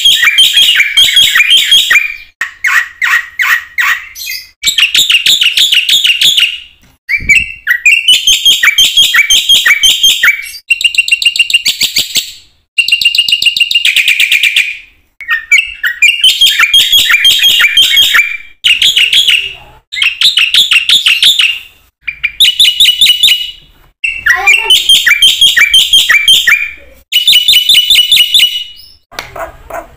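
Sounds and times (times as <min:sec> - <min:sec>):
bird singing repeated chirps: 0:00.0 - 0:29.1.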